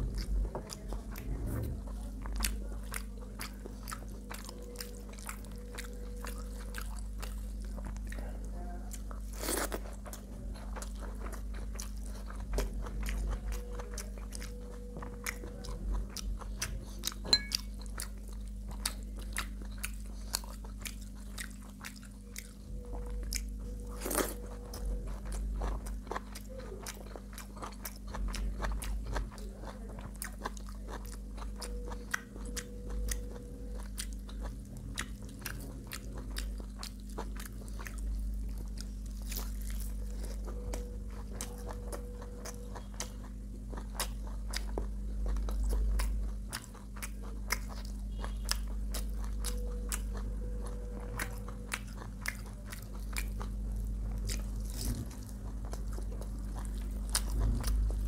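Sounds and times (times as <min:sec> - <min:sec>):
person crunching and chewing: 0:00.0 - 0:58.0
steady low hum: 0:00.0 - 0:58.0.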